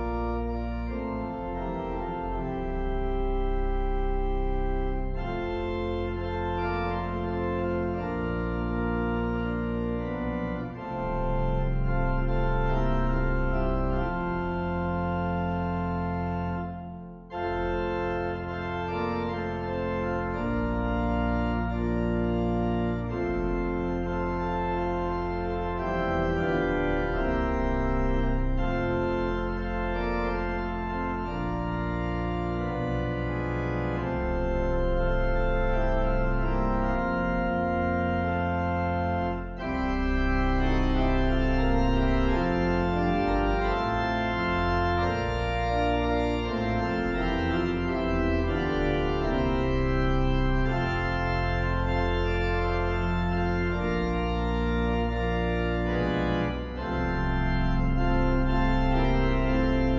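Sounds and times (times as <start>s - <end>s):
organ playing sustained chords: 0.0s - 59.9s.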